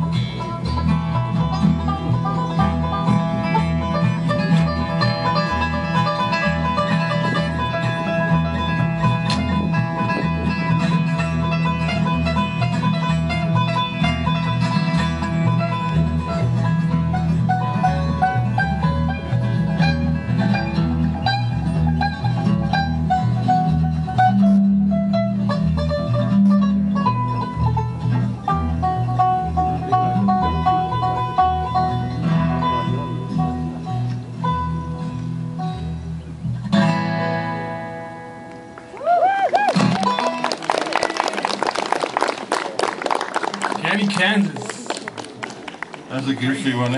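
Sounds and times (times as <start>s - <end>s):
banjo picking: 0.0s - 38.8s, 39.8s - 46.9s
upright bass plucking: 0.0s - 38.9s
acoustic guitar strumming: 0.0s - 39.0s, 39.8s - 40.6s.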